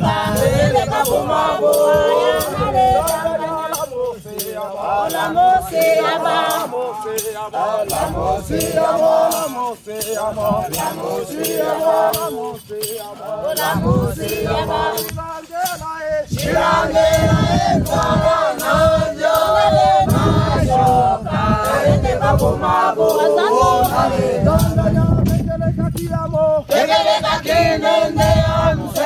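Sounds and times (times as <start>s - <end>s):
group of people singing: 0.0s - 29.0s.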